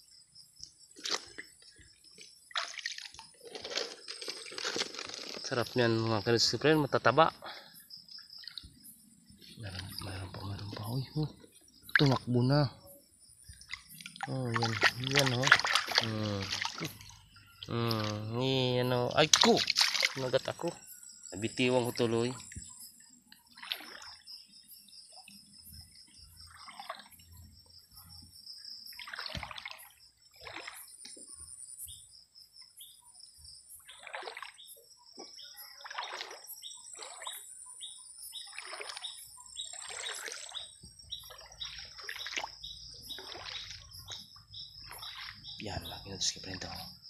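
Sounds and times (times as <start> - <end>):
shallow water splashing: 0.8 - 12.8, 13.4 - 27.6, 28.7 - 31.5, 33.8 - 46.9.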